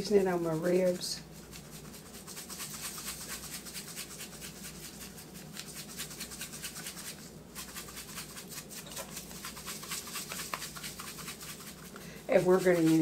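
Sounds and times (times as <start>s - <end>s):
seasoning shaker rattling: 0.0s - 13.0s.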